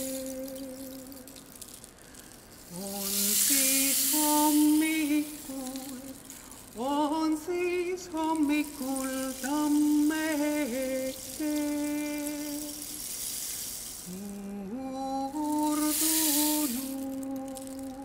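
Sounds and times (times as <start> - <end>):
woman singing folk melody: 0.0 - 1.5, 2.7 - 13.0, 14.0 - 18.0
rainstick hiss: 0.0 - 18.0.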